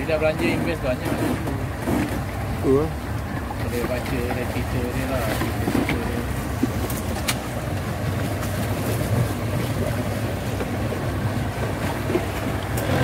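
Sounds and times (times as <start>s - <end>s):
outboard motor running: 0.0s - 13.0s
water noise: 0.0s - 13.0s.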